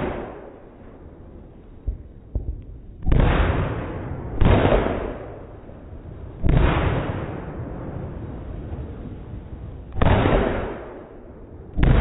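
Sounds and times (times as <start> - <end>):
loud firework bursts: 0.0 - 0.8, 1.9 - 12.0.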